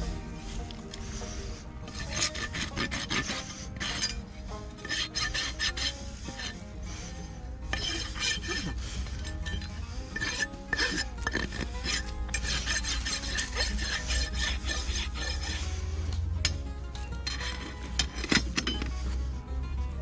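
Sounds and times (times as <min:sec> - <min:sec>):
faint background music: 0:00.0 - 0:20.0
hoof rasp scraping hoof: 0:00.0 - 0:20.0.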